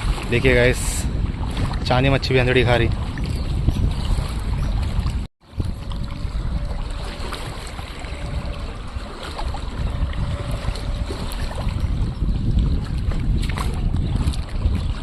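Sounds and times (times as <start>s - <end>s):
river waves splashing: 0.0s - 15.0s
wind buffeting microphone: 0.0s - 15.0s.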